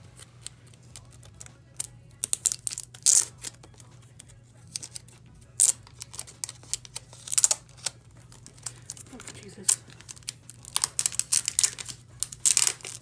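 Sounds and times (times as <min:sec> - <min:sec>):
packaging crinkling: 0:00.0 - 0:13.0
packaging torn open: 0:00.2 - 0:13.0.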